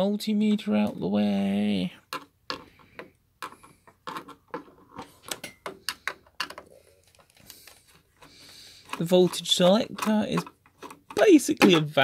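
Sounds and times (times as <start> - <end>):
small objects clicking on desk: 2.1 - 11.8.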